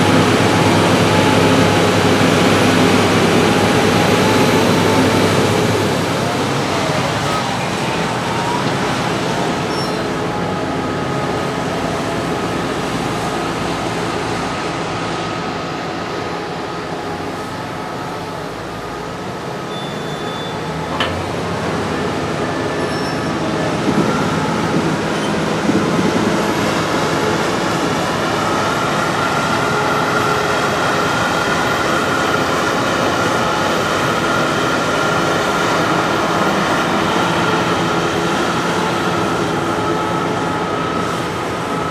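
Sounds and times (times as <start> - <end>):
diesel machinery engine drone: 0.0 - 41.9
machinery whine: 0.0 - 41.9.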